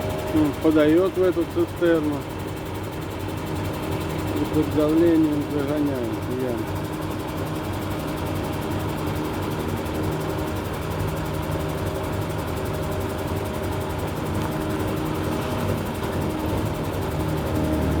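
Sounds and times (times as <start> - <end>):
machine engine humming: 0.0 - 18.0.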